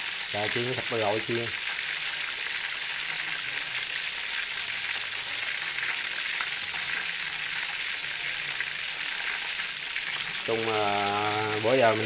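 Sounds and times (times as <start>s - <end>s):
chicken sizzling in oil: 0.0s - 12.0s
oil popping: 0.0s - 12.0s.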